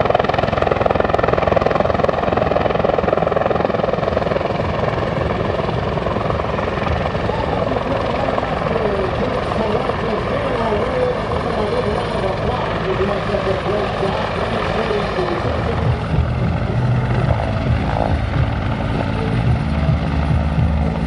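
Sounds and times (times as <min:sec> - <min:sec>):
helicopter rotor chop: 0:00.0 - 0:21.0
turbine whine: 0:00.0 - 0:21.0.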